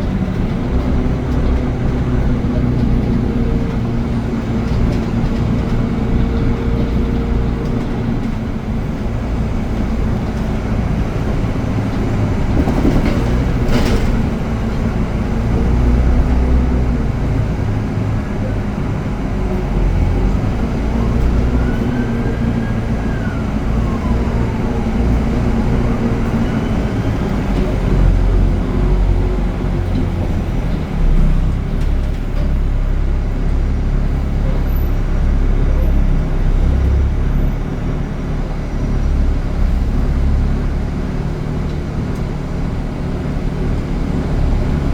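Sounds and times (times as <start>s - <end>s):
heavy vehicle engine rumble: 0.0s - 44.9s.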